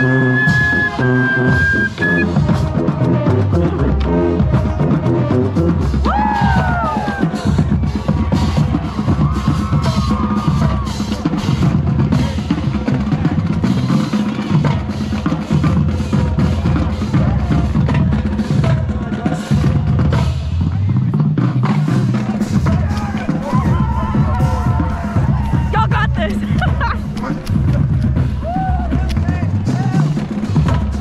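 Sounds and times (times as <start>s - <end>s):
snare and bass drums playing: 0.0s - 31.0s.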